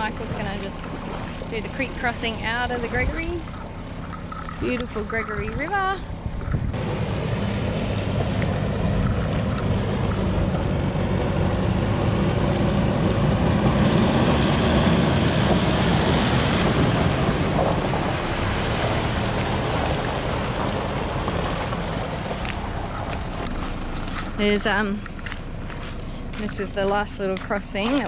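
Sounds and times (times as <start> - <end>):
vehicle engine running: 0.0 - 28.0
water splashing around tyres: 0.0 - 28.0.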